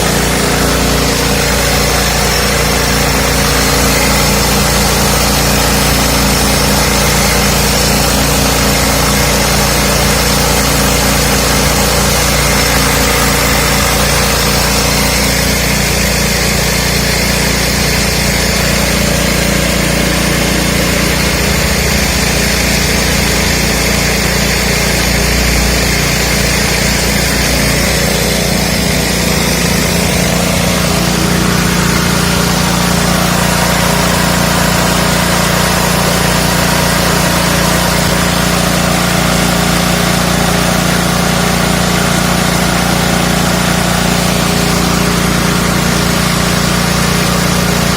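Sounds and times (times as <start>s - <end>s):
rice mill whirring: 0.0s - 47.9s
small petrol engine running: 0.0s - 47.9s.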